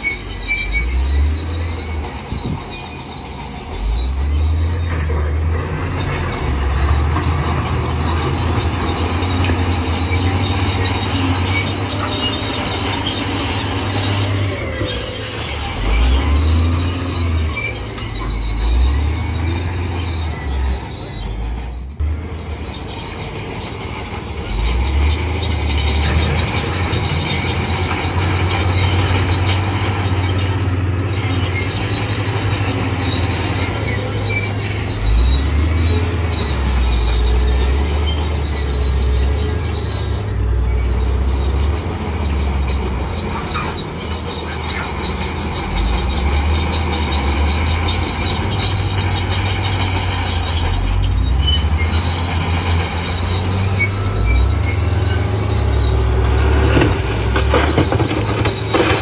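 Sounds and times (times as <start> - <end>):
diesel earthmoving machine working: 0.0 - 59.0
faint metallic squeals: 0.0 - 59.0.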